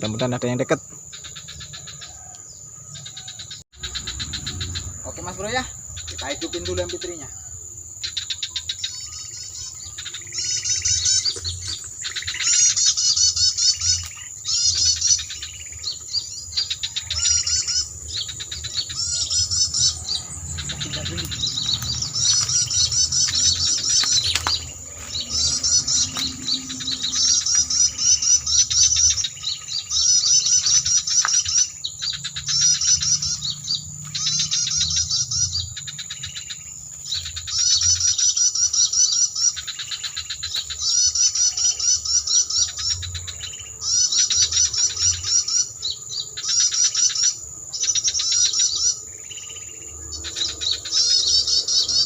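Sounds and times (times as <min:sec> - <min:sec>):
rapid high chirping bird call: 0:00.0 - 0:52.0.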